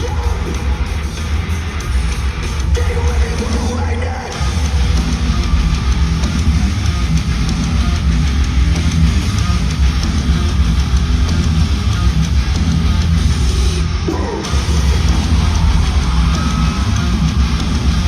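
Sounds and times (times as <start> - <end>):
bass: 0.0 - 18.0
drum kit: 0.0 - 18.0
heavy distorted electric guitars: 0.0 - 18.0.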